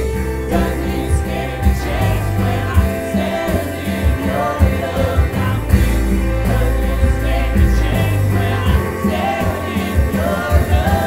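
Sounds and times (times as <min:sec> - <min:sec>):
band playing upbeat worship song: 0:00.0 - 0:11.0
vocalists singing: 0:00.0 - 0:11.0.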